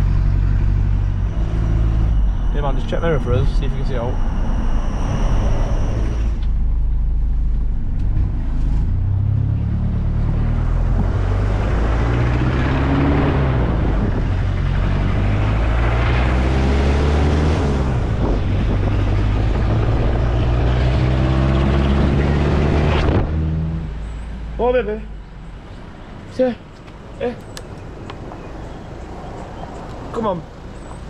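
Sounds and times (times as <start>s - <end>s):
car engine accelerating: 0.0s - 25.7s
road noise: 0.0s - 31.0s.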